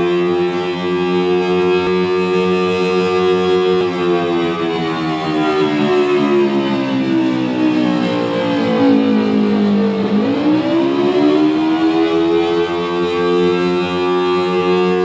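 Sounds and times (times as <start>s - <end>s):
civil defense siren through speaker: 0.0s - 15.0s.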